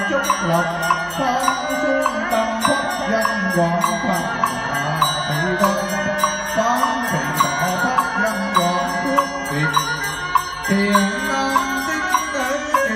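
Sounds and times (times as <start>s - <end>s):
person chanting: 0.0s - 12.9s.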